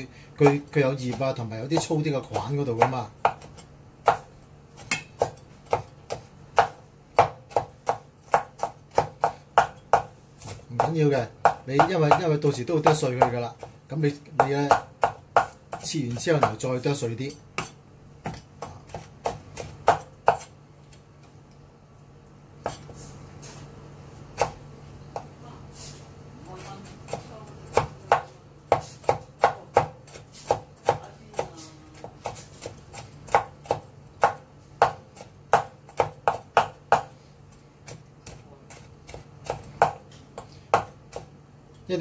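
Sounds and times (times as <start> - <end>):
knife chopping on wooden board: 0.4 - 16.8, 17.5 - 20.5, 22.6 - 23.0, 24.3 - 25.4, 27.0 - 41.4.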